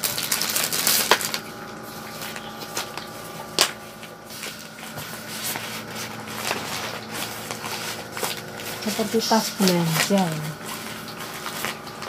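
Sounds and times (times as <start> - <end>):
medical machine humming: 0.0 - 12.0
plastic bag rustling: 0.0 - 12.0.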